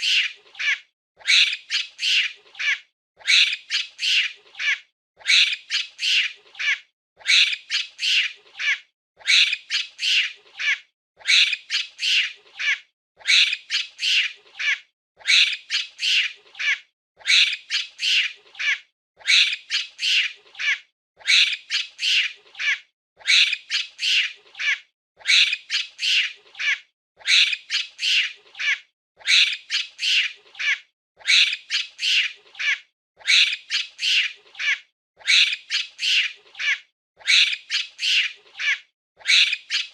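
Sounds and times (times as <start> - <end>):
monkey shrill squeaky calls: 0.0 - 39.9.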